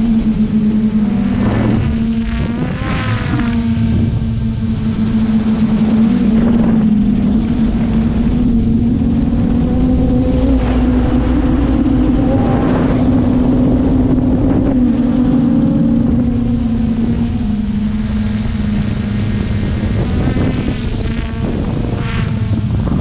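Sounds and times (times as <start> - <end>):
rushing air noise: 0.0 - 17.8, 19.2 - 23.0
drone motors buzzing: 0.0 - 23.0.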